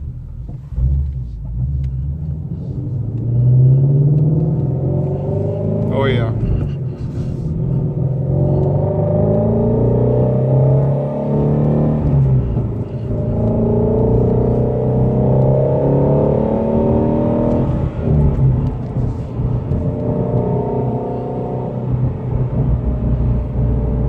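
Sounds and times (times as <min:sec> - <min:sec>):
car engine accelerating hard: 0:01.0 - 0:24.0.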